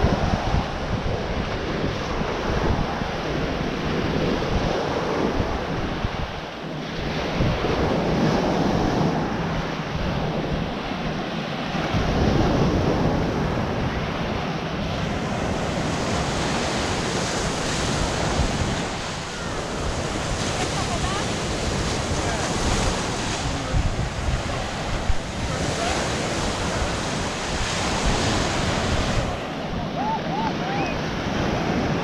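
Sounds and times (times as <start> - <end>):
ocean surf breaking: 0.0 - 32.0
wind buffeting microphone: 0.0 - 32.0.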